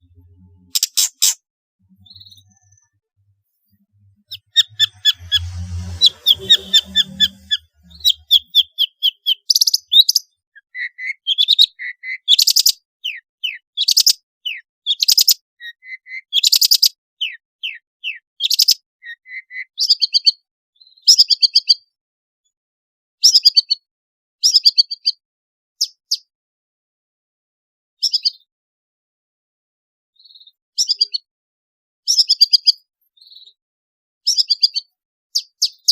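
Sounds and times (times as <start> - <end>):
bird singing varied song: 0.0 - 22.0, 23.2 - 25.2, 25.8 - 26.3, 28.0 - 28.5, 30.2 - 31.3, 32.1 - 33.6, 34.3 - 35.9.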